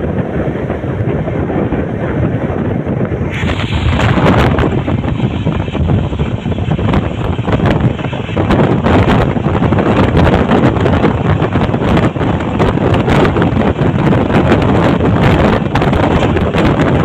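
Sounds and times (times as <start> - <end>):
train wheels rumbling on track: 0.0 - 17.0
wind buffeting microphone: 0.0 - 17.0.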